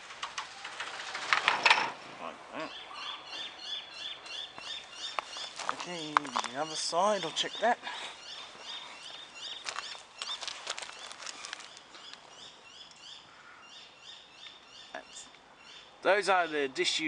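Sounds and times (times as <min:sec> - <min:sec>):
bird chirping: 0:02.5 - 0:16.8.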